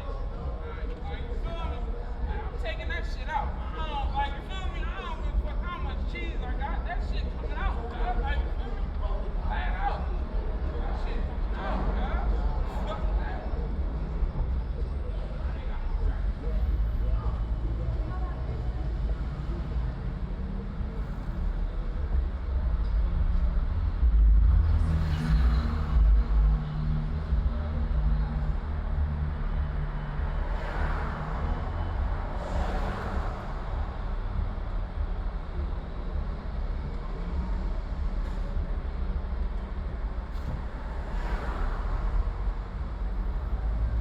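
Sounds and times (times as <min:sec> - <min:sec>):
road noise: 0:00.0 - 0:44.0
vehicle engine rumble: 0:00.0 - 0:44.0.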